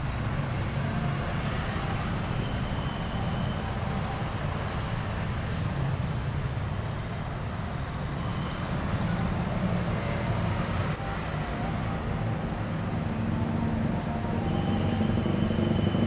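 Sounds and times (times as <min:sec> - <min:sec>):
diesel bus engine rumbling: 0:00.0 - 0:16.0.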